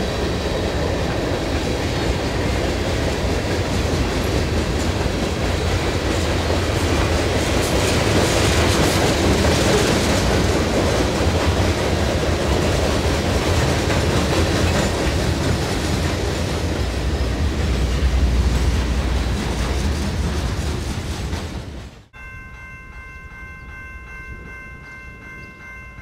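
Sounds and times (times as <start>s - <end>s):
freight train rolling on rails: 0.0s - 26.0s.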